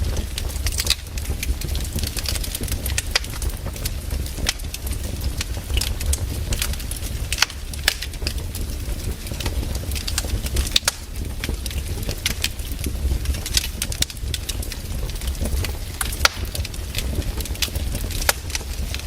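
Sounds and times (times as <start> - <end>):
firewood crackling and popping: 0.0 - 19.0
low fire rumble: 0.0 - 19.0.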